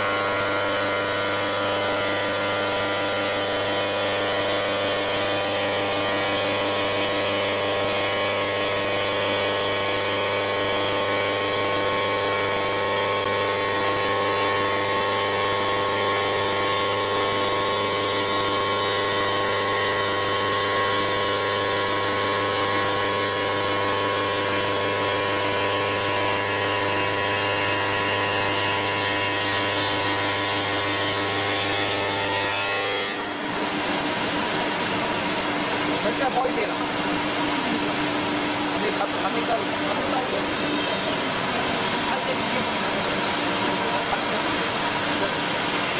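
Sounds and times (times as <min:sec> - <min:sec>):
router spindle whining: 0:00.0 - 0:45.9.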